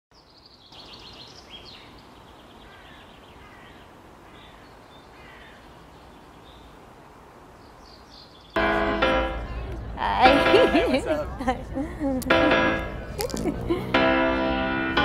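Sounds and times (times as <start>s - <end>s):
birds chirping: 0.1s - 15.0s
outdoor background noise: 0.1s - 15.0s.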